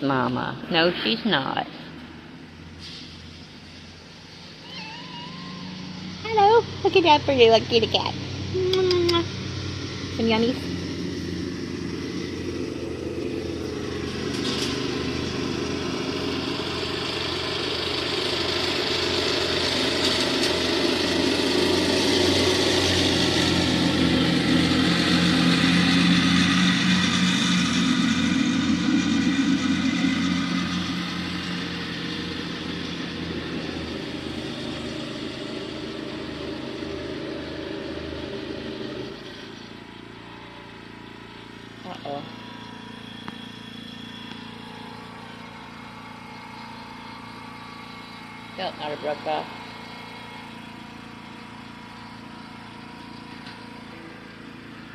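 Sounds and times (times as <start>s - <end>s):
lawn mower engine running: 0.0s - 54.9s.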